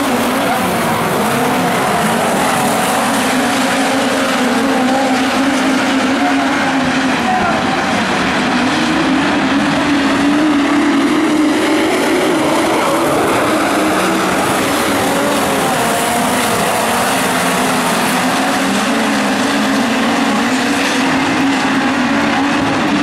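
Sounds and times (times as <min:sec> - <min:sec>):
race car engines: 0:00.0 - 0:23.0.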